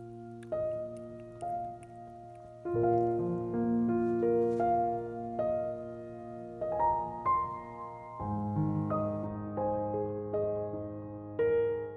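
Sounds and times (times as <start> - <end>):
slow soft piano music: 0.0 - 11.9.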